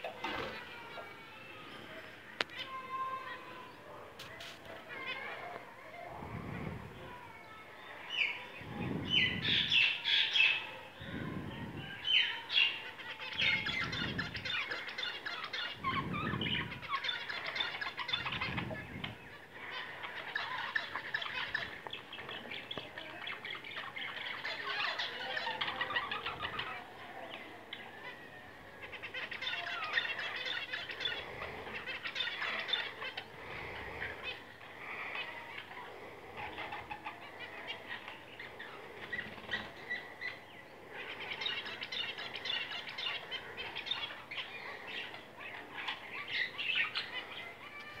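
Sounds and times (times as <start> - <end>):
caged birds chattering and twittering: 0.0 - 48.0.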